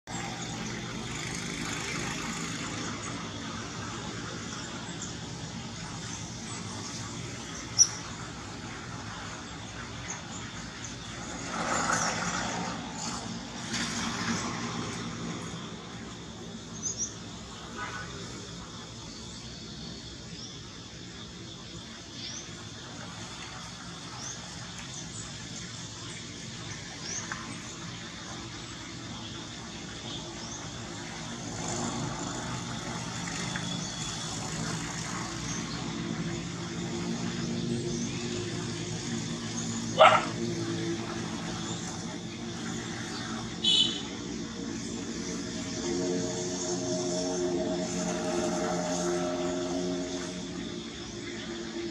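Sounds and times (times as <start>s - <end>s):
outdoor background hiss: 0.1s - 51.9s.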